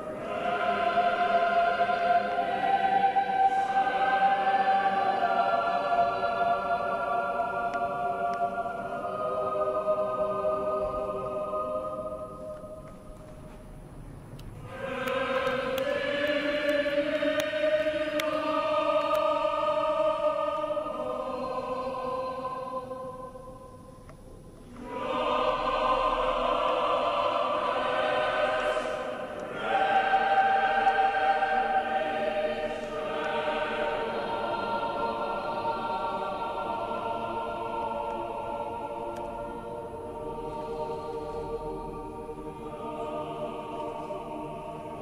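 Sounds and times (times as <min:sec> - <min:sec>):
choir singing sustained chords: 0:00.0 - 0:45.0.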